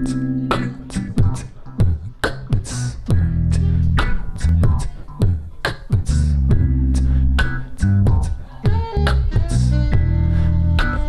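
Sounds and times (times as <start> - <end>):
beatboxing into a microphone: 0.0 - 11.0
electric bass guitar: 0.0 - 11.0.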